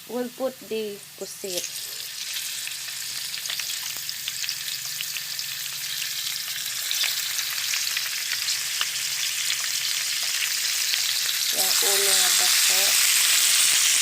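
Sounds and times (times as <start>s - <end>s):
squid sizzling in hot oil: 0.0s - 14.0s.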